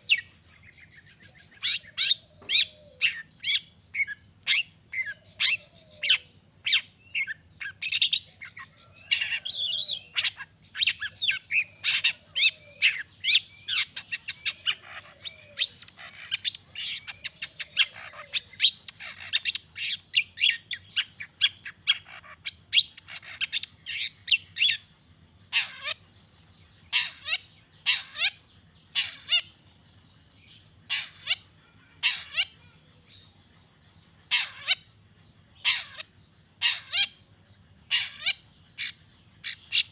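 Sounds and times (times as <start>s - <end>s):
bird harsh chirps and squawks: 0.0s - 39.9s.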